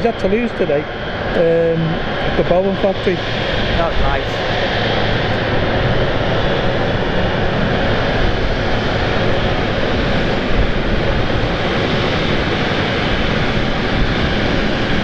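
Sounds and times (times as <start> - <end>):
faint high whine: 0.0 - 15.0
jet engines rushing: 0.0 - 15.0.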